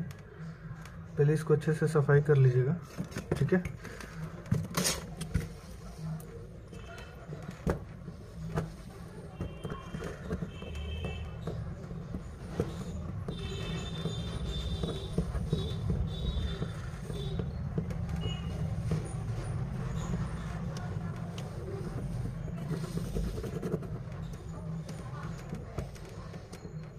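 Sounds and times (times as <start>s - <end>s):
road traffic rumble: 3.2s - 26.9s.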